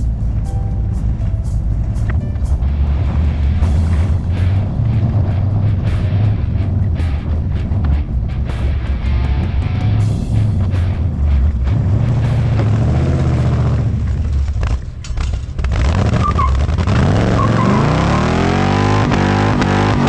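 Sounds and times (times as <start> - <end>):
truck engine accelerating: 0.0 - 20.0.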